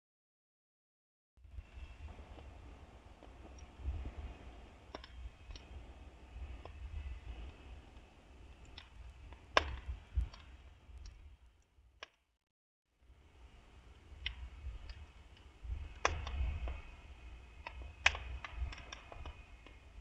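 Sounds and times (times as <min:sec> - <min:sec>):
wood fire crackling: 0:01.4 - 0:12.2, 0:13.1 - 0:20.0.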